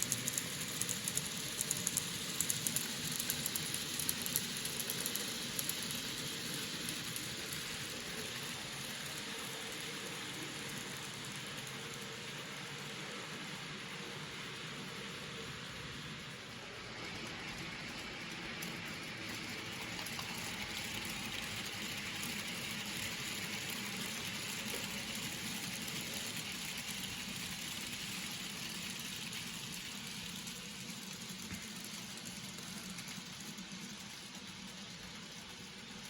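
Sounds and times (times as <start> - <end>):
model train running on rails: 0.0 - 36.0.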